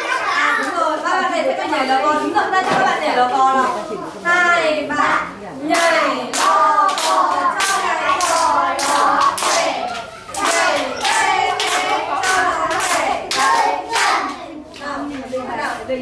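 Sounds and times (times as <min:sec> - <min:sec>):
children and woman singing: 0:00.0 - 0:15.3.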